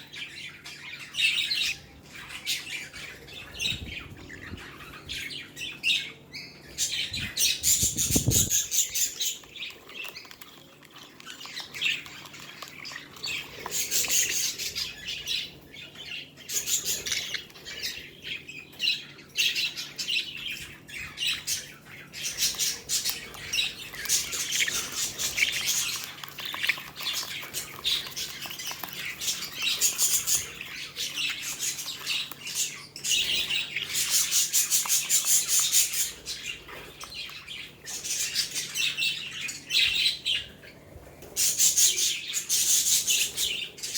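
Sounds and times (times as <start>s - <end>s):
budgerigars chattering and squawking: 0.0s - 10.4s, 11.2s - 40.8s.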